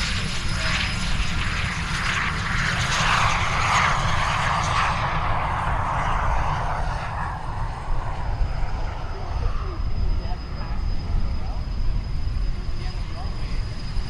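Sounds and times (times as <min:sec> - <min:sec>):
jet aircraft roar passing: 0:00.0 - 0:14.0.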